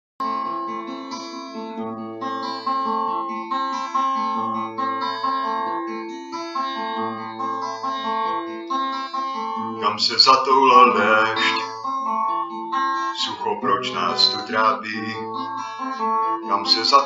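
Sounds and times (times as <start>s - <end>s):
plucked guitar chord pattern: 0.2s - 17.0s.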